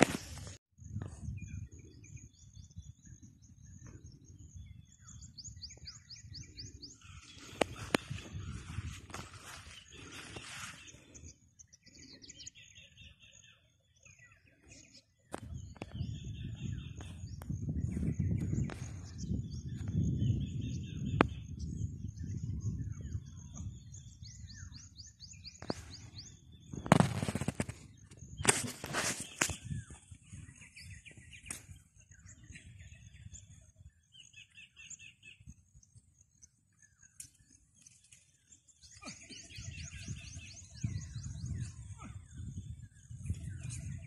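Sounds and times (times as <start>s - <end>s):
small birds chirping and trilling: 0.0s - 44.0s.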